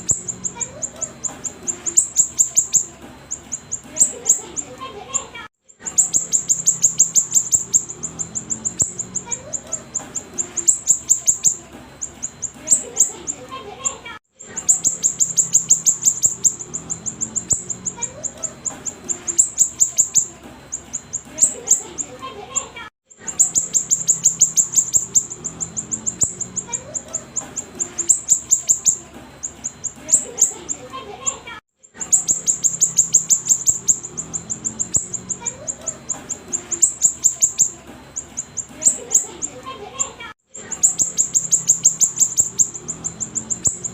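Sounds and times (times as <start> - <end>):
songbird singing high chirps: 0.0 - 4.8, 5.8 - 13.4, 14.5 - 22.1, 23.2 - 30.8, 32.0 - 39.6, 40.6 - 43.9.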